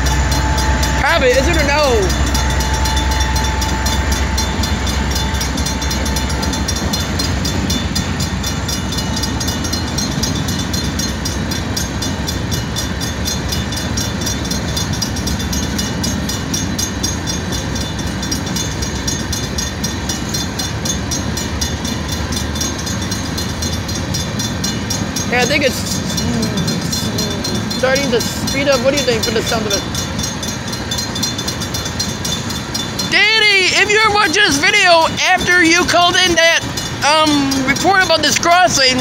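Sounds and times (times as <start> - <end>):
fast regular high ticking: 0.0 - 39.0
freight train wheels rumbling: 0.0 - 39.0.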